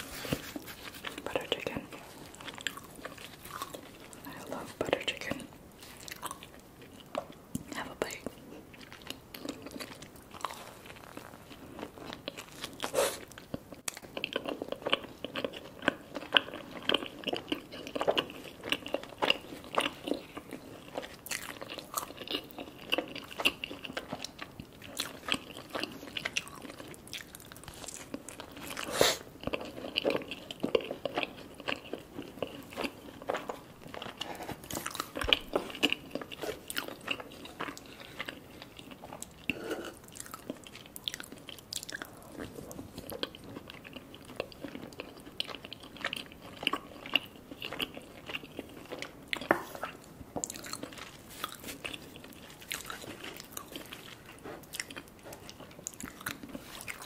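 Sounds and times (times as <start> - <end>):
close chewing and wet mouth sounds: 0.0 - 57.0.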